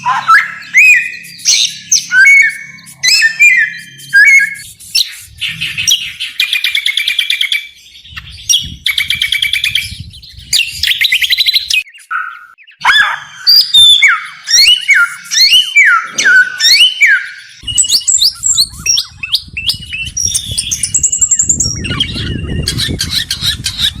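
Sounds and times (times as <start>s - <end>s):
small songbird singing: 0.0s - 24.0s.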